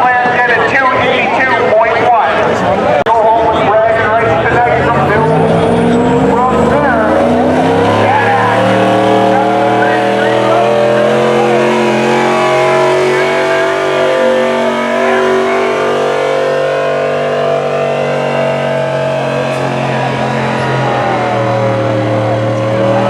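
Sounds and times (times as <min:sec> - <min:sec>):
truck engine running under load: 0:02.6 - 0:23.0.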